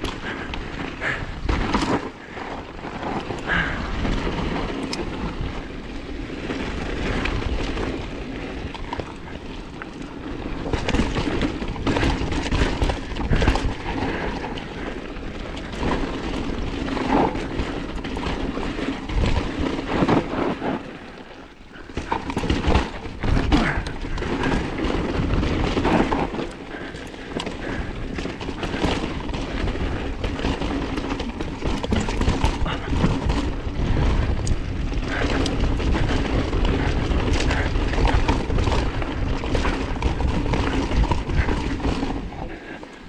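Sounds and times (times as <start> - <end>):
bike rattling over bumps: 0.0 - 43.0
tyres crunching over dirt: 0.0 - 43.0.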